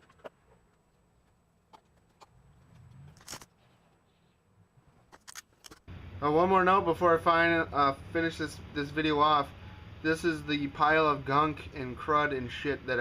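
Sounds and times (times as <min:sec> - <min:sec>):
low hum: 0:00.0 - 0:12.5.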